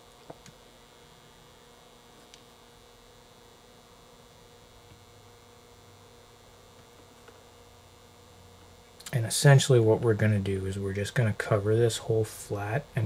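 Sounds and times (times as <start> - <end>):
faint electrical hum: 0.0 - 13.0
room hiss: 0.0 - 13.0.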